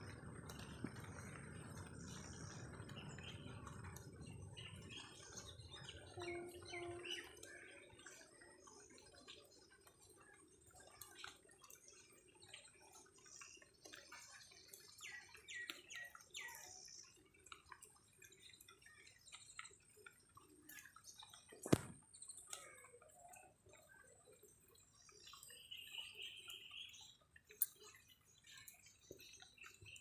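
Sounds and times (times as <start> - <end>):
birds chirping: 0.0 - 30.0
small ticks and drips: 0.0 - 30.0.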